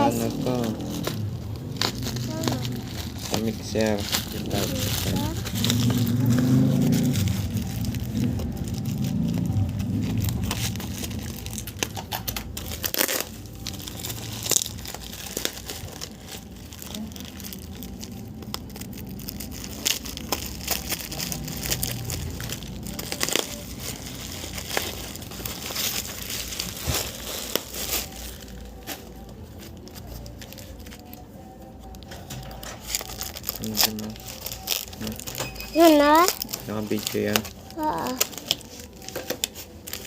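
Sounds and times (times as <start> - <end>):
packaging torn and crinkled: 0.0 - 40.0.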